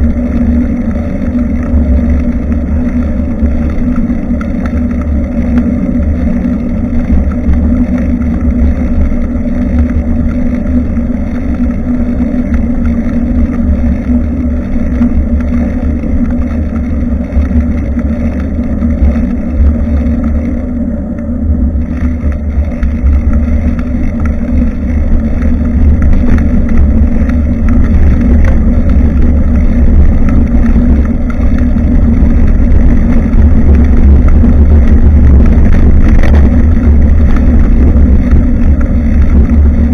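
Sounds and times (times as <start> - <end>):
road noise: 0.0 - 39.9
wind rumble on microphone: 0.0 - 39.9.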